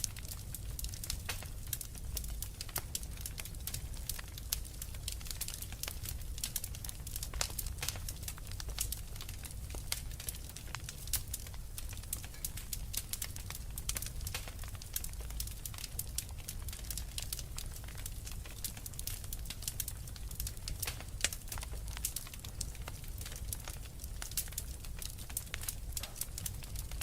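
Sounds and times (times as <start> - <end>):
fire crackling and popping: 0.0 - 27.0
low rumble of fire: 0.0 - 27.0.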